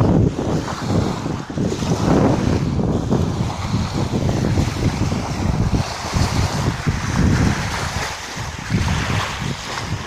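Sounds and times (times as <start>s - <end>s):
waves washing: 0.0s - 10.0s
wind buffeting microphone: 0.0s - 10.0s.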